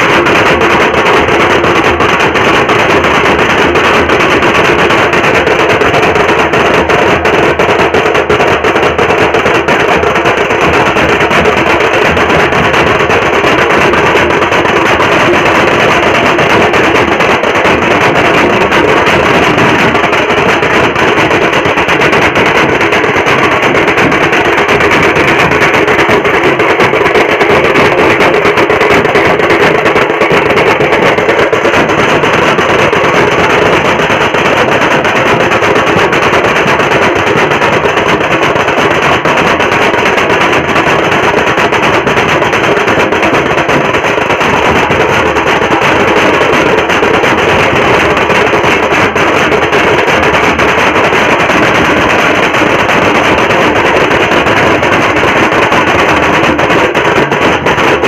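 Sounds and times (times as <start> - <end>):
large drums beaten fast: 0.0 - 58.0.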